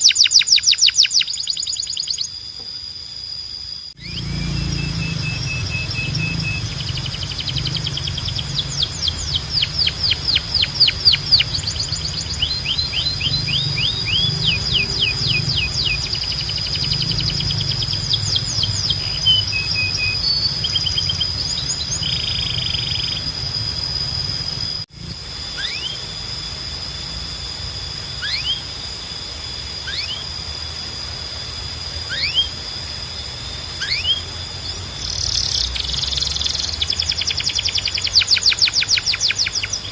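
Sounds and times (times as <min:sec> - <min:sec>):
canary singing: 0:00.0 - 0:02.6, 0:03.9 - 0:24.8, 0:25.5 - 0:26.6, 0:28.0 - 0:28.8, 0:29.4 - 0:30.5, 0:31.6 - 0:39.9
low hum: 0:00.0 - 0:39.9
steady high-pitched tone: 0:00.0 - 0:39.9.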